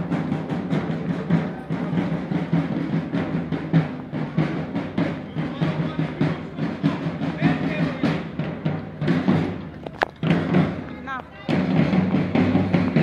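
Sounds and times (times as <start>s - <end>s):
marching band music: 0.0s - 13.0s
quick even drumbeat: 0.0s - 13.0s.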